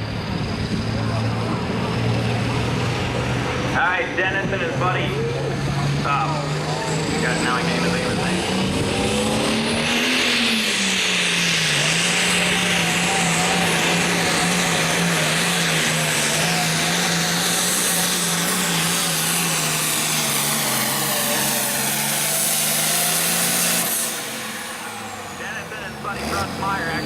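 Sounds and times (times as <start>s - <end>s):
tractor diesel engine running hard: 0.0s - 27.0s.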